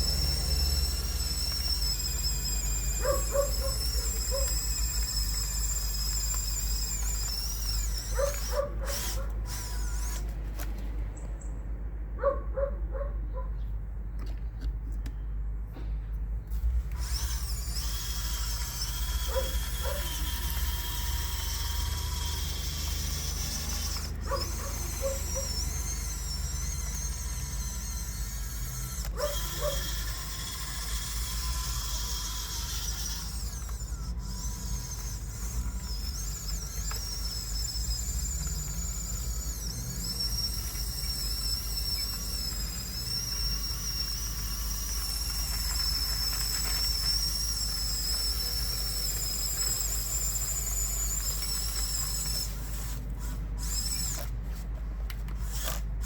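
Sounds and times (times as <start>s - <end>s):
electric motors whining: 0.0s - 11.0s, 16.5s - 56.0s.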